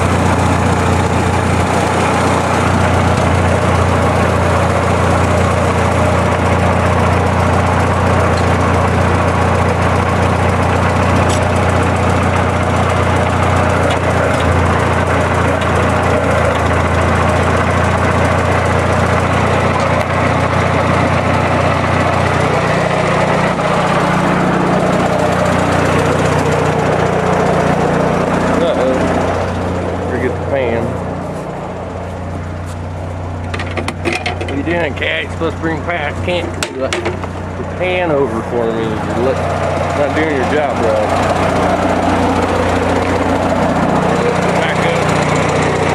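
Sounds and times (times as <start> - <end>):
tractor engine idling: 0.0 - 45.9.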